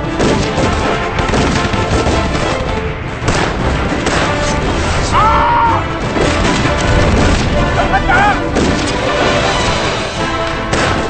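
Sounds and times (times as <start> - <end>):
gunfire: 0.0 - 5.1, 6.0 - 11.0
dramatic background music: 0.0 - 11.0
explosions: 0.0 - 11.0.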